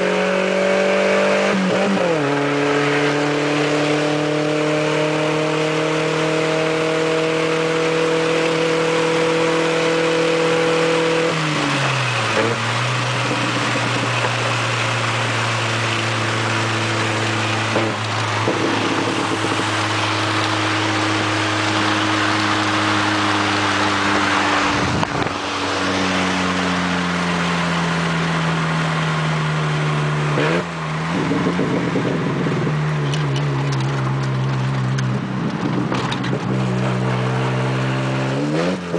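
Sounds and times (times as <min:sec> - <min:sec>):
pickup exhaust rumbling: 0:07.4 - 0:38.6.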